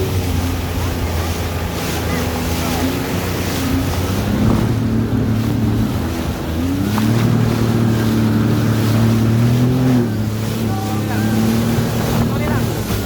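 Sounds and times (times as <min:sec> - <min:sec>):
jet ski engine revving: 0:00.0 - 0:13.0
water rushing: 0:00.0 - 0:13.0
wind on microphone: 0:00.0 - 0:13.0.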